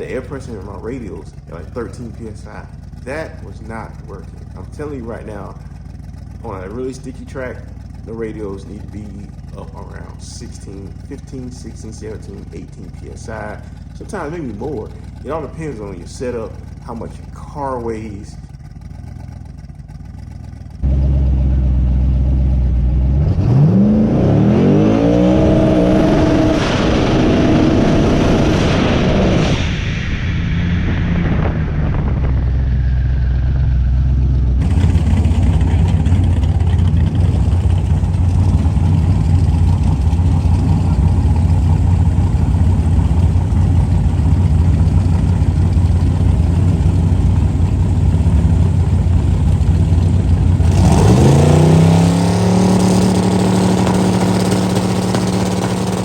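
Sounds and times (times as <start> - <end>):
car engine revving: 0.0 - 56.0
low engine drone: 0.0 - 56.0.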